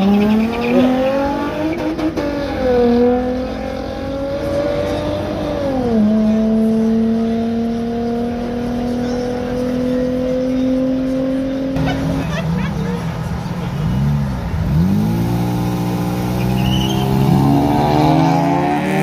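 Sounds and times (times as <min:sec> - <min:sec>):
racing car engine at full throttle: 0:00.0 - 0:19.0.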